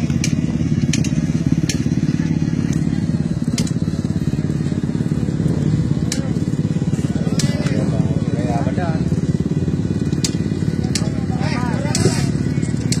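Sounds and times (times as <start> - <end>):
motocross bike engines rattling: 0.0 - 13.0
sharp engine crackles: 0.0 - 13.0.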